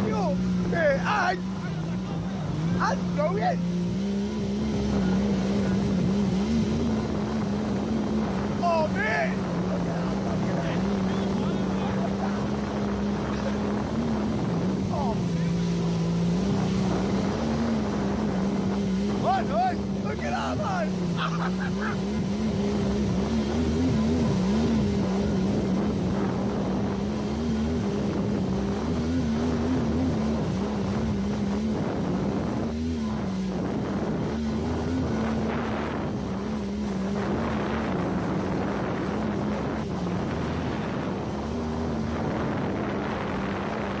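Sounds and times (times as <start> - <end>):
jet ski engine running: 0.0 - 44.0.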